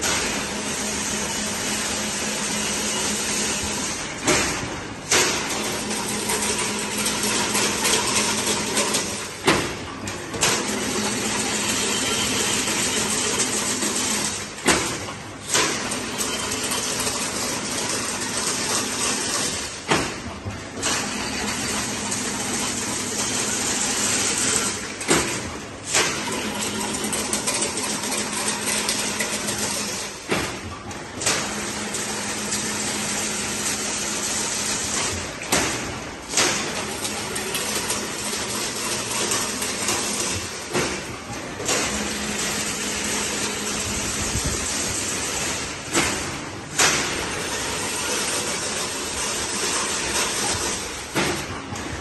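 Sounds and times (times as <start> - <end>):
wire machine rush and rattle: 0.0 - 52.0
sharp machine knock: 2.0 - 51.8.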